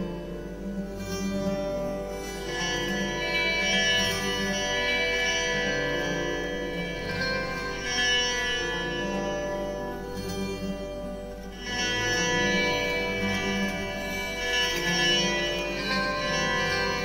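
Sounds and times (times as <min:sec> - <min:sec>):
plucked string instrumental music: 0:00.0 - 0:17.0.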